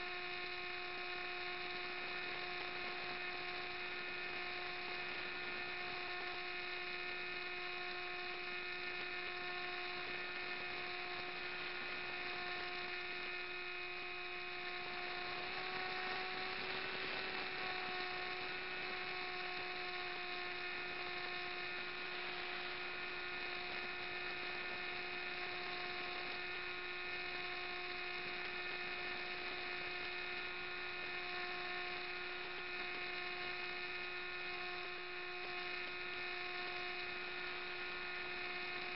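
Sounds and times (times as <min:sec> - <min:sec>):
model aircraft motor whine: 0:00.0 - 0:38.9.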